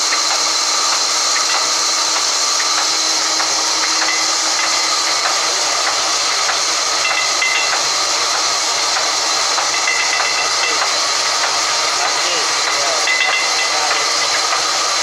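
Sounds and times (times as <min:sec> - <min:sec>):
band saw cutting a log: 0:00.0 - 0:15.0.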